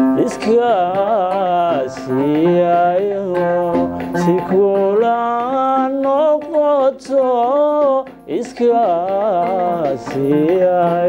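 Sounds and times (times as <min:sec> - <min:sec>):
man singing: 0:00.0 - 0:11.0
oud playing: 0:00.0 - 0:11.0.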